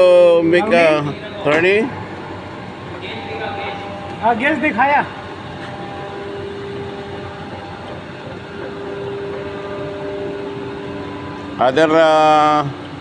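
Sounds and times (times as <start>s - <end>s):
machine humming: 0.0s - 13.0s
steady tone: 0.0s - 13.0s.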